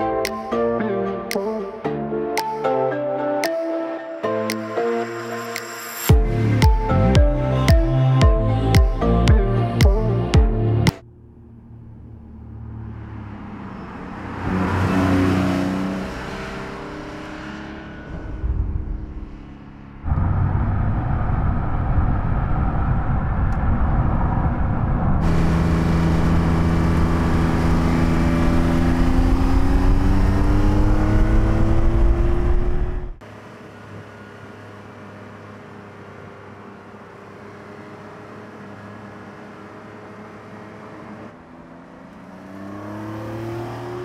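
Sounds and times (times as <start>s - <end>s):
car engine accelerating: 5.0s - 44.0s.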